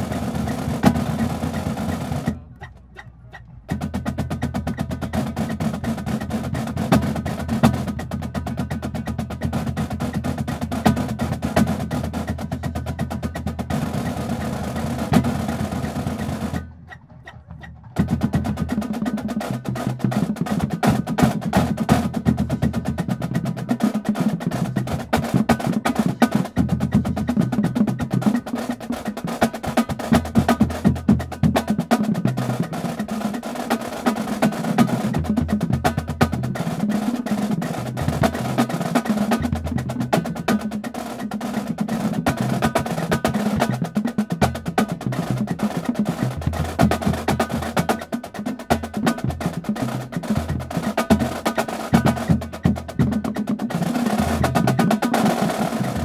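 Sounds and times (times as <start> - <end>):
marching snare drums playing: 0.0 - 56.0.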